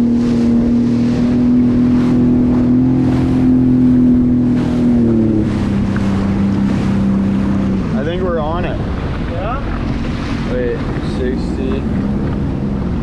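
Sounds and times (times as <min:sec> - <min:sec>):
jet ski engine running: 0:00.0 - 0:13.0
rushing wind and water: 0:00.0 - 0:13.0.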